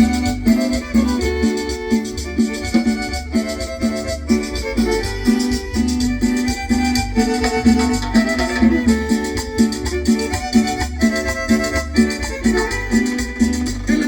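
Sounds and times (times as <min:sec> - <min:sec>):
band playing instrumental cumbia: 0:00.0 - 0:14.0.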